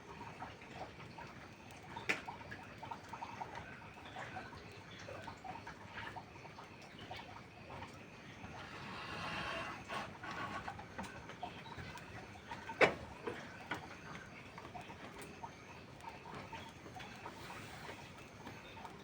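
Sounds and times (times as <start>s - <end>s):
rain dripping and pattering: 0.0s - 19.0s.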